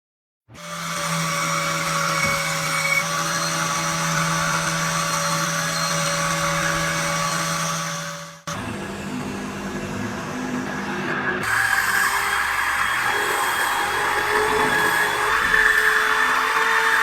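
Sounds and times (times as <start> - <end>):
electric power tool motor: 0.6 - 9.4, 11.4 - 17.0.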